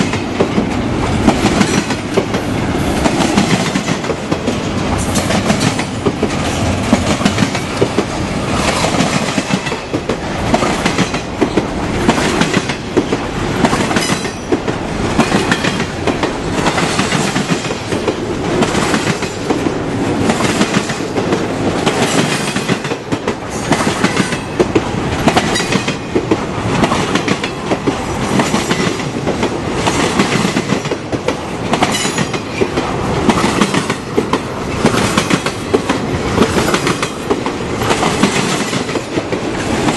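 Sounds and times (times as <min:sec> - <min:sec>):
rumble of wheels on rail: 0:00.0 - 0:39.9
train wheels clicking on rail joints: 0:00.0 - 0:39.9.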